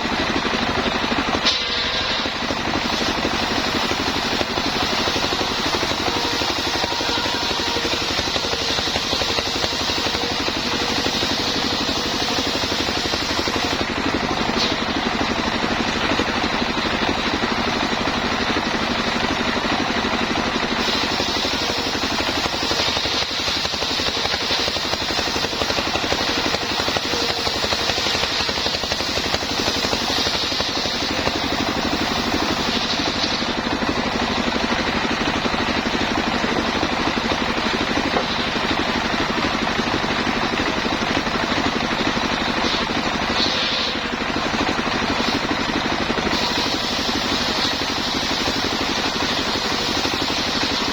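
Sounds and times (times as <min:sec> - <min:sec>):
sawmill engine running: 0:00.0 - 0:50.9.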